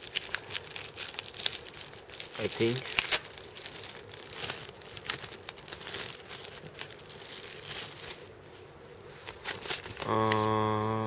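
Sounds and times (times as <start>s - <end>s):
packaging crinkling: 0.0s - 10.5s.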